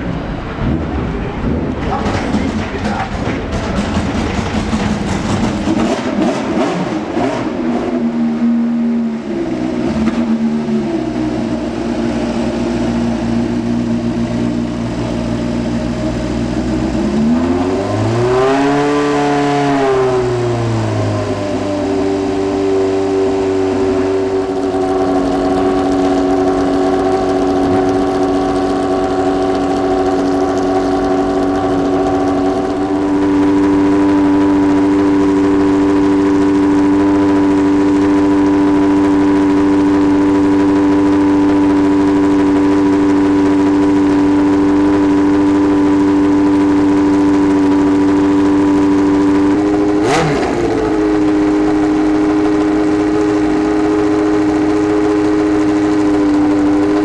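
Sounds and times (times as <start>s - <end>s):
racing car engine at steady revs: 0.0s - 57.0s.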